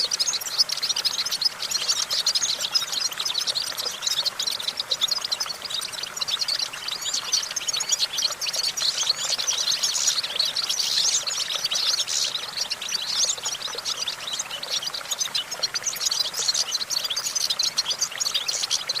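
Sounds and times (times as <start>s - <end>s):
goldfinch twittering song: 0.0s - 19.0s.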